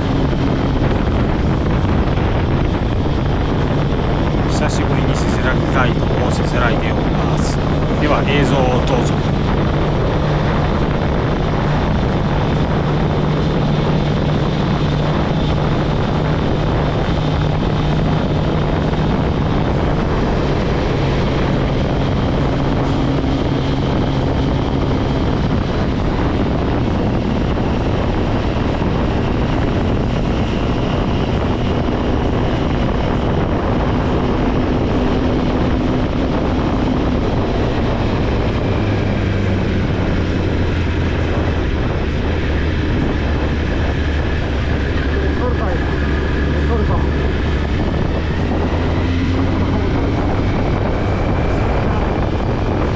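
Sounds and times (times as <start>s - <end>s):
motorcycle engine running: 0.0s - 4.5s, 9.1s - 52.9s
wind rushing over microphone: 0.0s - 52.9s.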